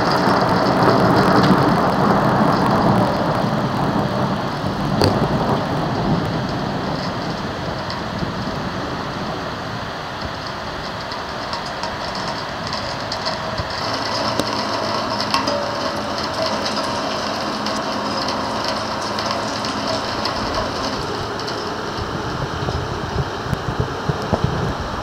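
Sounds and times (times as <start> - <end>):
heavy rain hiss: 0.0 - 25.0
raindrops ticking on surface: 0.0 - 25.0.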